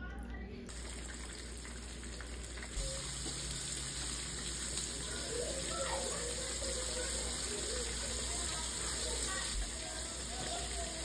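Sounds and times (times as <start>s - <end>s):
gravy simmering in a skillet: 0.7s - 11.0s.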